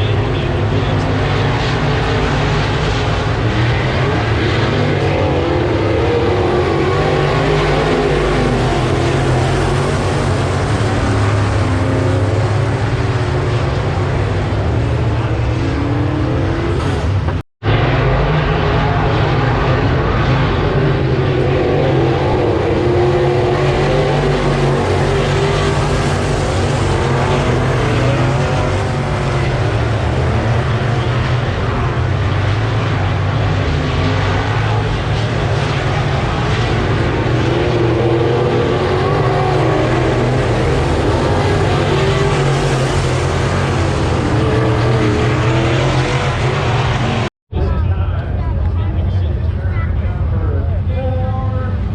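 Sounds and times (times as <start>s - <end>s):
race car engines droning: 0.0s - 51.9s.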